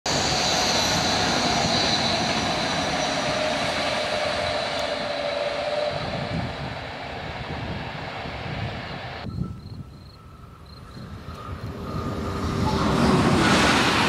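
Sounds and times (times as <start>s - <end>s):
high-speed train passing: 0.1s - 14.0s.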